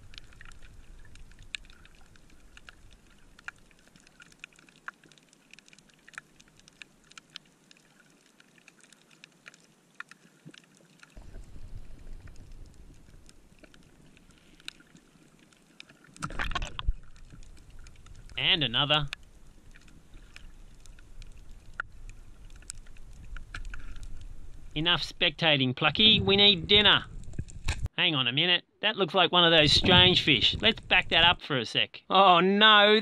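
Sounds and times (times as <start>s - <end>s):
underwater clicks and crackles: 0.0s - 25.1s, 26.0s - 27.9s, 29.6s - 31.4s
low rumble of water movement: 0.0s - 25.3s, 25.9s - 27.9s, 29.6s - 31.4s.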